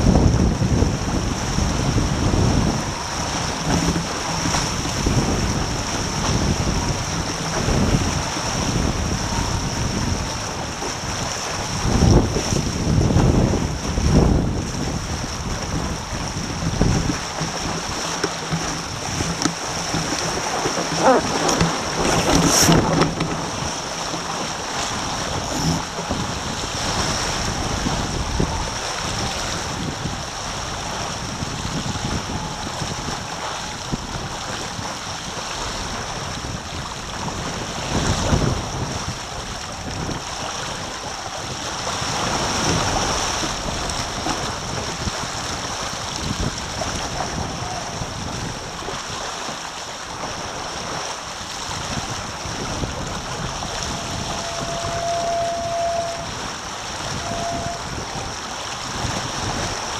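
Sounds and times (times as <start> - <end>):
splash: 0.0 - 59.9
water rushing along hull: 0.0 - 59.9
wind buffeting microphone: 0.0 - 59.9.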